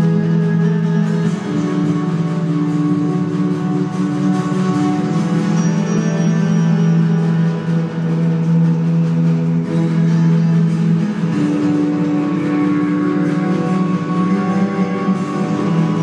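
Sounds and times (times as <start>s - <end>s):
acoustic guitar: 0.0s - 16.0s
didgeridoo drone: 0.0s - 16.0s.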